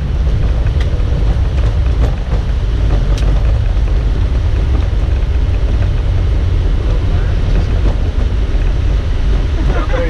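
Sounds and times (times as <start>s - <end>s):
aircraft cockpit rumble: 0.0s - 10.0s.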